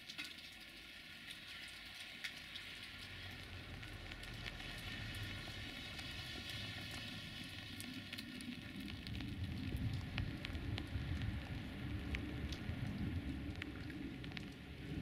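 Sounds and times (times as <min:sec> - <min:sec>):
raindrop ticks: 0:00.0 - 0:15.0
low uneven rumble: 0:03.0 - 0:15.0.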